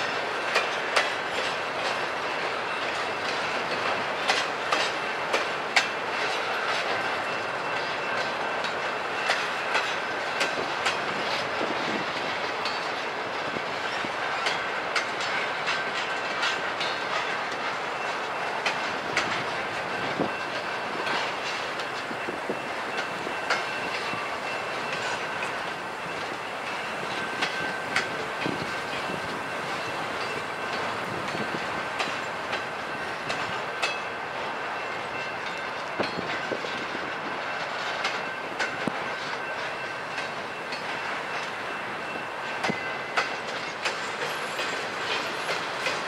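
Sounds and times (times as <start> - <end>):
rail clicks and clacks: 0.0 - 46.0
train wheels rumbling on rails: 0.0 - 46.0.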